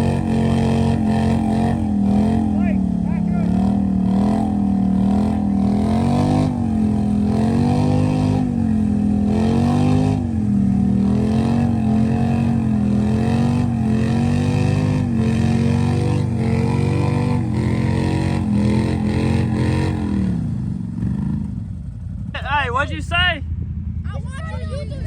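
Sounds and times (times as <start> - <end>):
off-road vehicle engine revving: 0.0 - 23.2.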